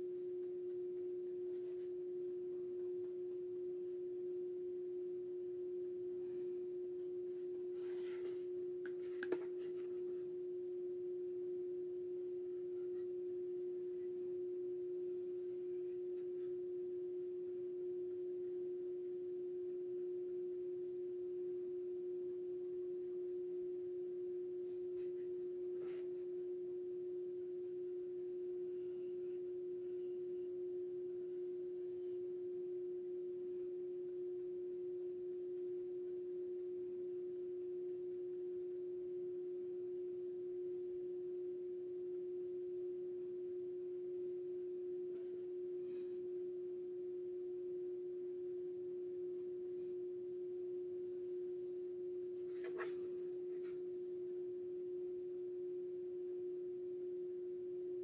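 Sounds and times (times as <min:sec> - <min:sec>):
steady pure tone hum: 0:00.0 - 0:58.0.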